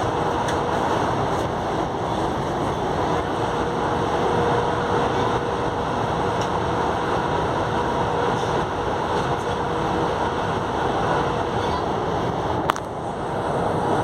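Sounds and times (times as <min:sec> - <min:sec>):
electric train running noise: 0:00.0 - 0:14.0.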